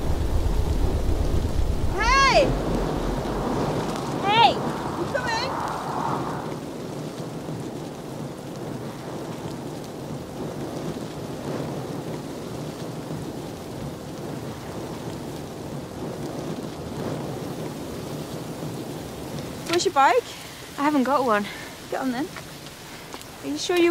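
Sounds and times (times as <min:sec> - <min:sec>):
steady rushing outdoor ambience: 0:00.0 - 0:23.9.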